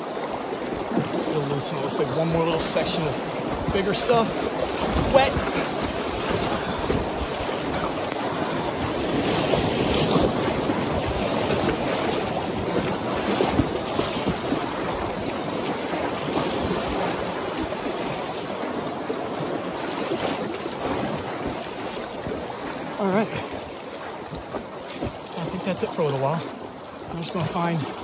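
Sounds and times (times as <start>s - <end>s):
whitewater rapids rushing: 0.0s - 28.0s.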